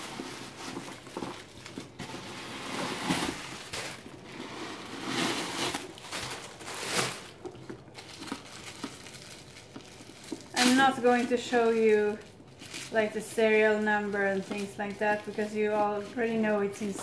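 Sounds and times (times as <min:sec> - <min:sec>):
tissue paper rustling: 0:00.0 - 0:17.0.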